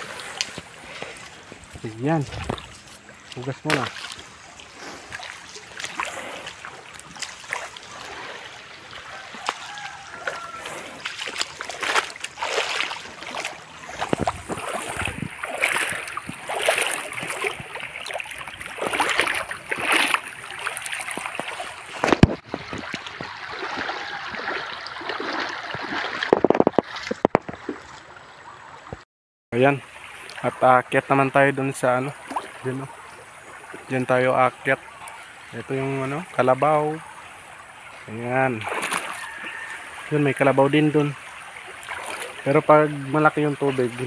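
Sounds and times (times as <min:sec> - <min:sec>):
water splashing: 0:00.0 - 0:28.9, 0:29.6 - 0:44.0
creek running: 0:00.0 - 0:29.0, 0:29.6 - 0:44.0.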